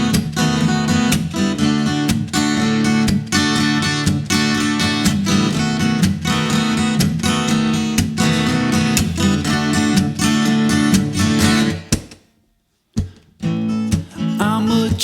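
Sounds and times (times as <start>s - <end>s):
acoustic guitar strumming: 0.0s - 12.2s, 13.1s - 15.0s.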